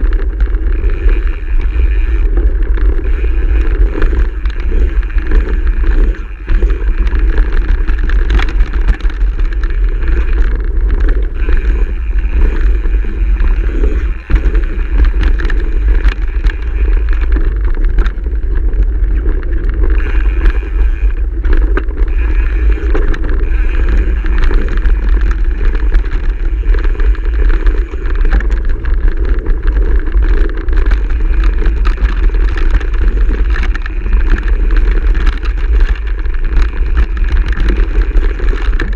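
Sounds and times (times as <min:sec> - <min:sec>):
bike clicks and rattles: 0:00.0 - 0:38.9
bike tyre noise: 0:00.0 - 0:38.9
wind buffeting microphone: 0:00.0 - 0:38.9.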